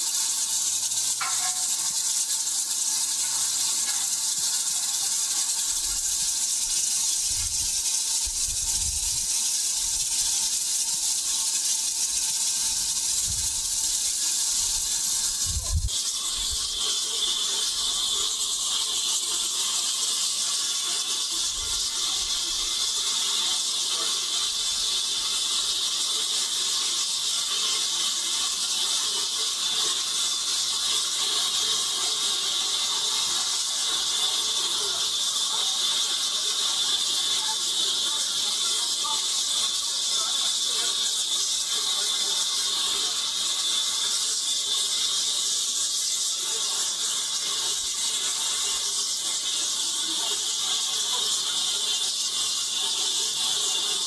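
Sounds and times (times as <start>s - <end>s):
steam hissing: 0.0s - 54.0s
water gushing from hose: 0.0s - 54.0s.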